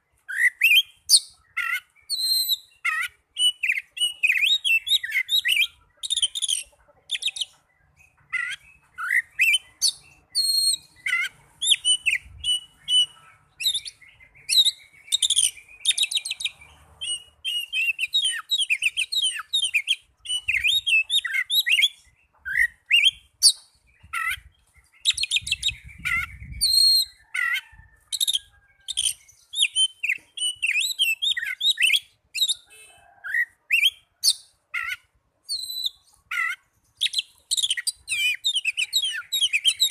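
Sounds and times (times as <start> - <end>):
bird singing whistles and trills: 0.2 - 6.6, 7.2 - 39.9.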